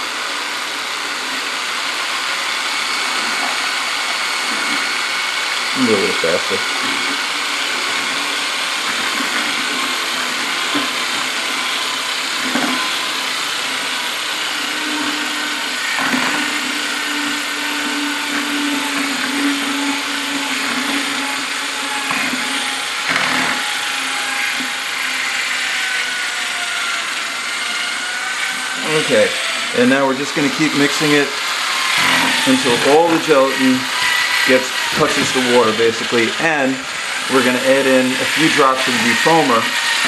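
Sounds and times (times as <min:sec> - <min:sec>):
electric drill mixer running: 0:00.0 - 0:40.0.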